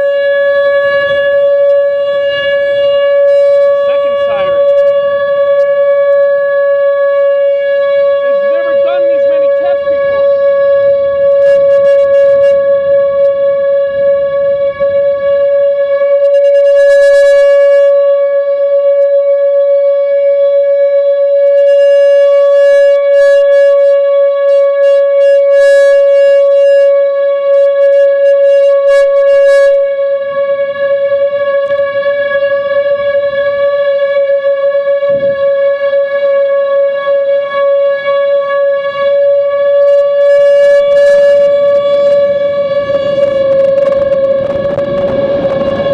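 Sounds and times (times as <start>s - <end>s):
warning siren steady tone: 0.0s - 45.9s.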